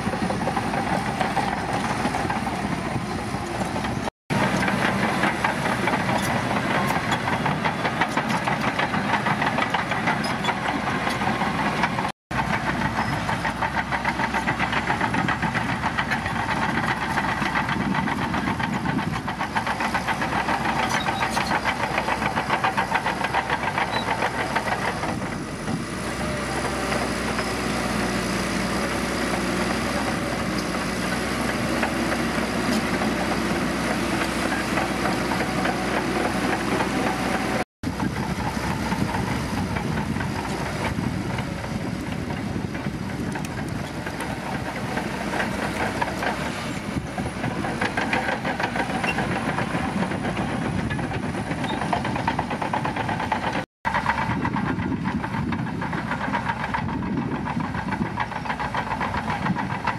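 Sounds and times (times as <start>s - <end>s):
bulldozer diesel engine: 0.0s - 59.9s
steel tracks clattering: 3.4s - 59.9s.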